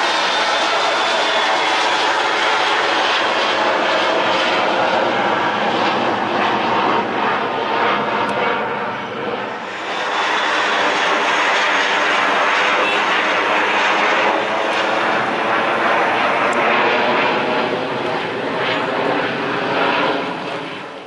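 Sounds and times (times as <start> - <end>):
jet flying overhead: 0.0 - 21.0.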